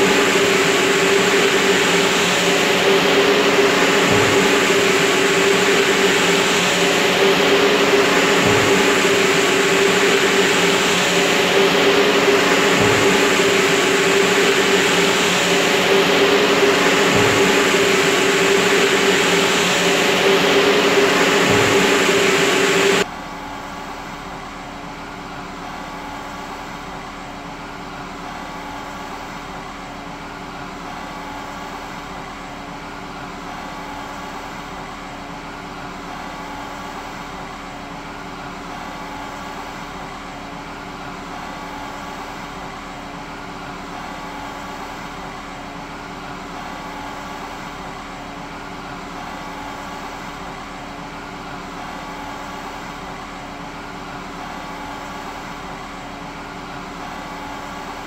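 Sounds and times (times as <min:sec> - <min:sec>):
steady mechanical drone: 0:00.0 - 0:58.0.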